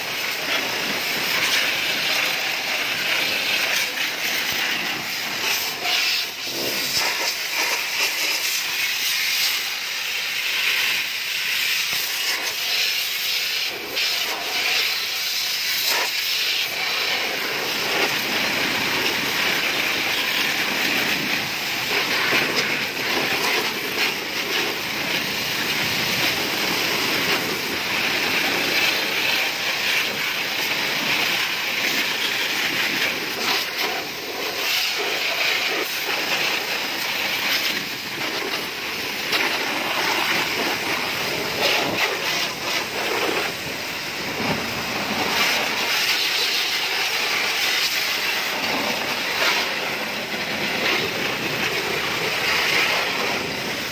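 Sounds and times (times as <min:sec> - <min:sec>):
pressure washer jet hissing: 0:00.0 - 0:53.9.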